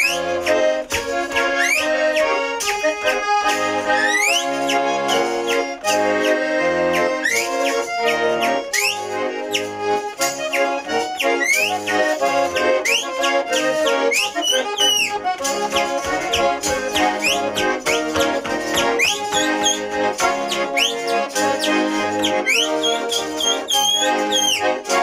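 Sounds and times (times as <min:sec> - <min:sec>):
button accordion folk tune: 0:00.0 - 0:25.0
whistled upward slides: 0:01.5 - 0:02.4, 0:03.8 - 0:06.5, 0:07.2 - 0:24.8.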